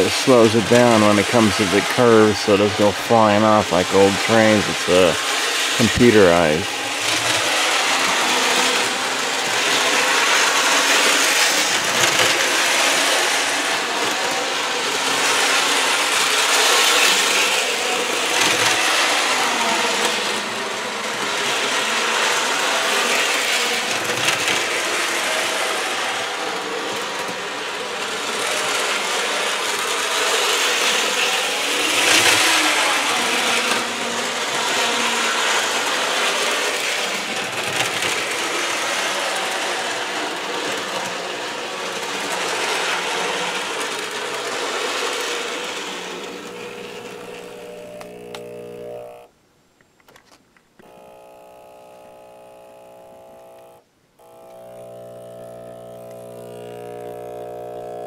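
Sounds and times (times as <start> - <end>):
model train motor whirring: 0.0 - 49.3, 50.8 - 58.0
wheels over rail joints: 0.0 - 49.3.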